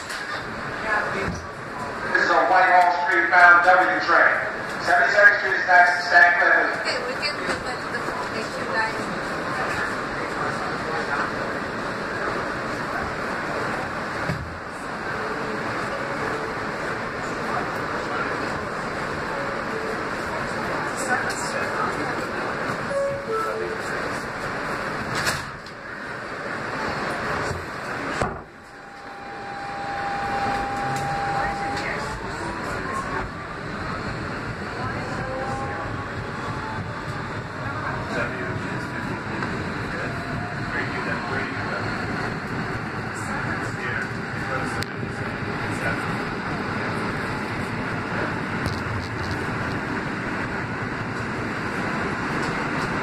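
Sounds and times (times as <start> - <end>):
steady high whine: 0.0 - 53.0
subway train rumble and hiss: 0.0 - 53.0.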